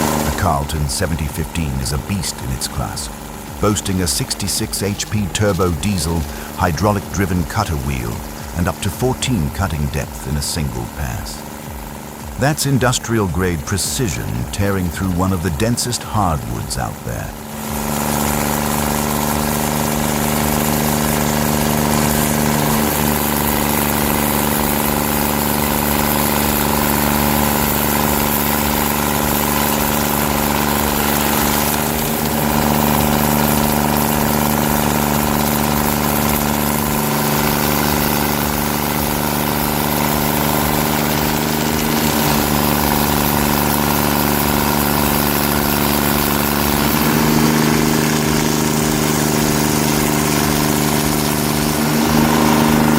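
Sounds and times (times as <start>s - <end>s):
diesel engine running steadily: 0.0s - 52.9s.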